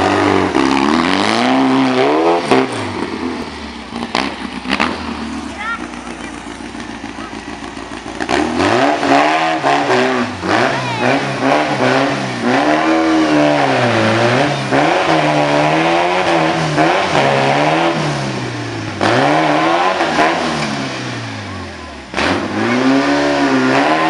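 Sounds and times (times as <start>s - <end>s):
buggy engine revving: 0.0s - 24.0s.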